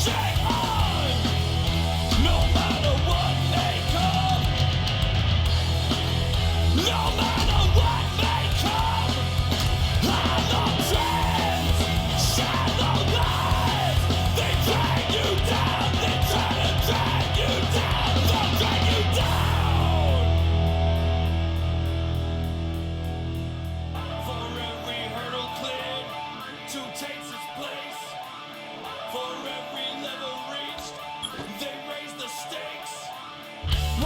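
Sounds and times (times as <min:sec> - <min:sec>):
heavy metal music: 0:00.0 - 0:34.0.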